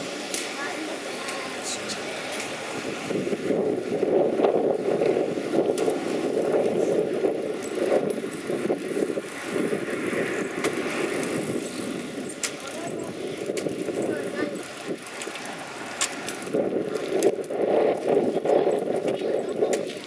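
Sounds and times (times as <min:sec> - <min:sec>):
bicycle tyres rolling on concrete: 0:00.0 - 0:20.0
wind buffeting microphone: 0:00.0 - 0:20.0.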